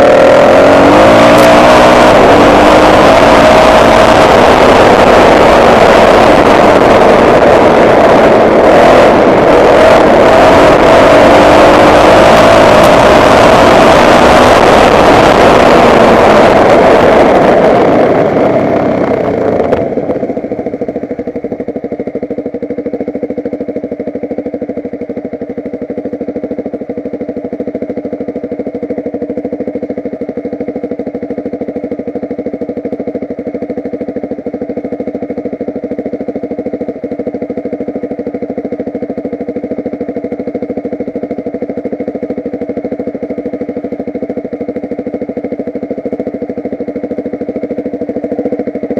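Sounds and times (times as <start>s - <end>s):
motocross bike engine: 0.0s - 48.9s.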